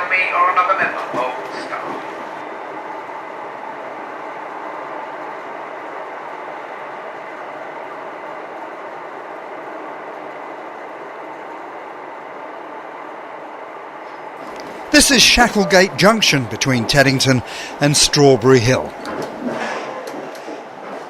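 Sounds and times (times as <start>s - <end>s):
train running noise from inside: 0.0s - 21.0s.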